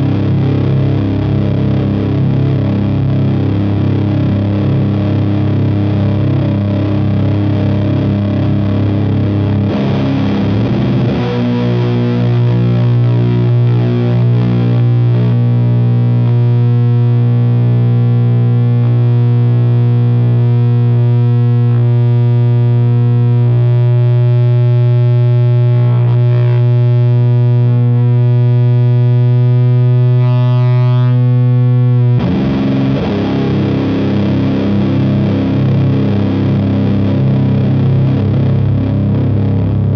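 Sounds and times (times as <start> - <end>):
distorted electric guitar drone chords: 0.0 - 39.9.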